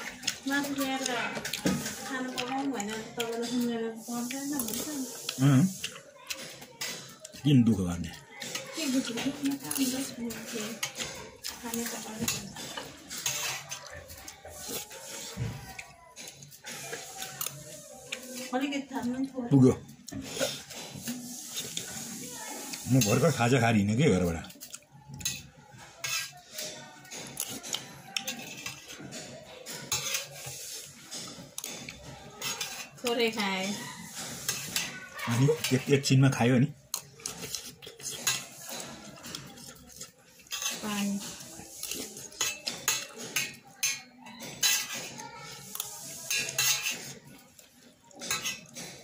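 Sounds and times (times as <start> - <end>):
spoon scraping a metal plate: 0.0 - 15.4, 20.1 - 24.3, 25.2 - 49.0.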